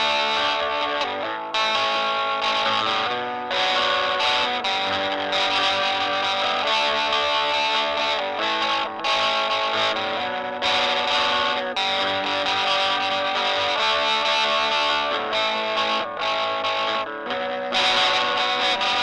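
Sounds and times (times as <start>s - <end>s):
distorted electric guitar melody: 0.0s - 19.0s.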